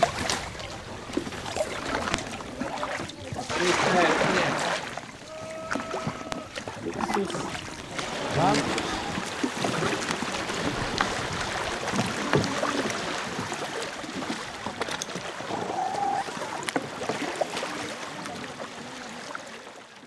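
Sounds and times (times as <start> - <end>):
water washing: 0.0 - 19.8
paddle splashing in water: 0.0 - 20.0.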